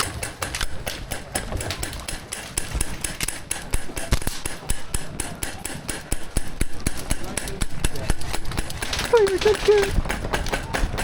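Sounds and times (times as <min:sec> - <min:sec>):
airsoft gunfire: 0:00.0 - 0:11.0
pellets striking hard surfaces: 0:00.0 - 0:11.0.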